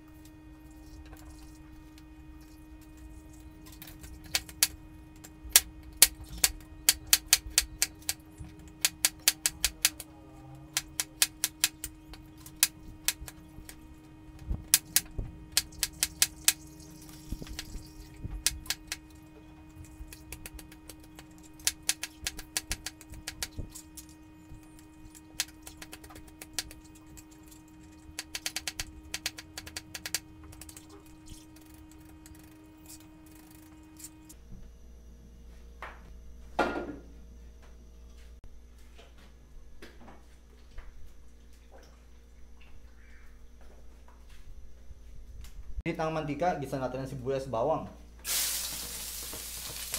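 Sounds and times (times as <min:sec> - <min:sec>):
steady hum: 0:00.0 - 0:49.9.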